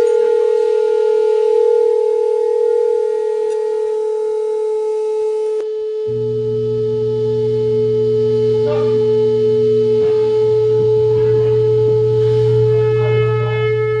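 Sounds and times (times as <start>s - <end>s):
loud sine tone: 0.0s - 14.0s
low hum: 0.0s - 14.0s
lower second tone: 0.0s - 14.0s.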